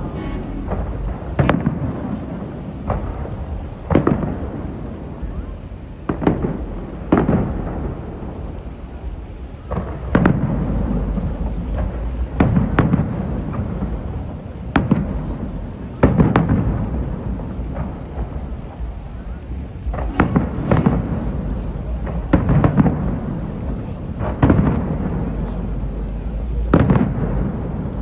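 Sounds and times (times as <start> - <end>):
fireworks booming: 0.0 - 28.0
low rumble of explosions: 0.0 - 28.0.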